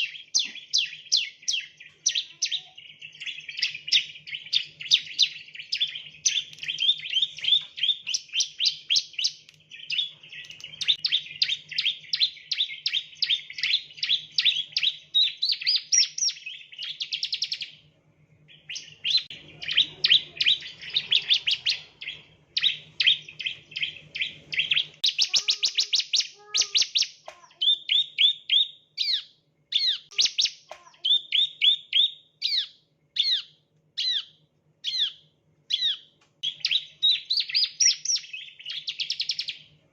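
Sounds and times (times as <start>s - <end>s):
bird singing high trills: 0.0s - 17.8s, 18.5s - 39.6s.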